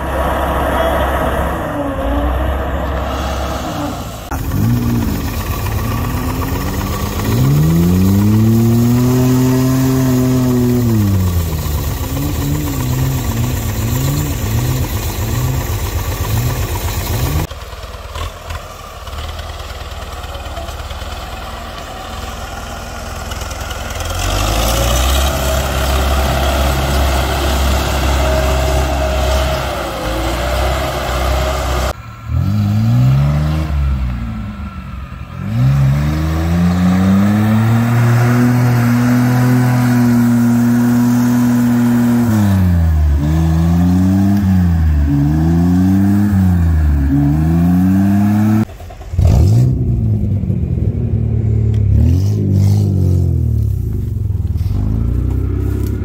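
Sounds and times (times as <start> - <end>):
heavy engine drone: 0.0 - 56.0
vehicle engines revving in mud: 0.0 - 56.0.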